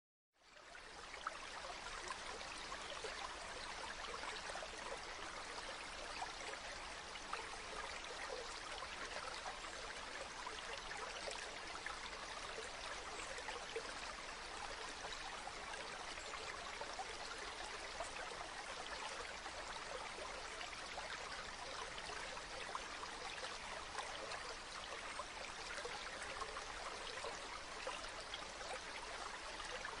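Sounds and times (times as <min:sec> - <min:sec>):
stream flowing and splashing: 0:00.5 - 0:30.0.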